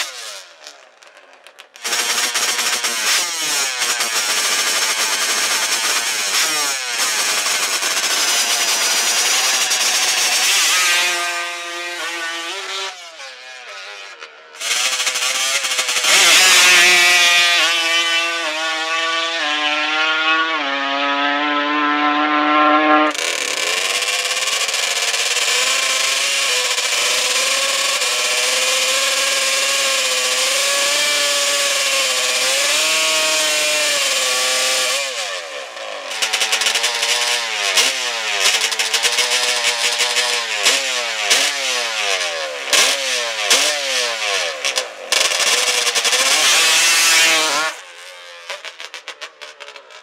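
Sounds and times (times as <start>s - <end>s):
quad engine revving: 0.0s - 50.0s.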